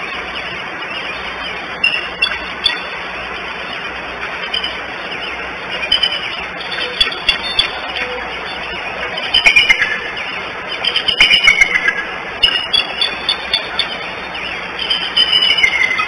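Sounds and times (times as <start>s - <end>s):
birds chirping: 0.0s - 16.0s
steady outdoor hiss: 0.0s - 16.0s.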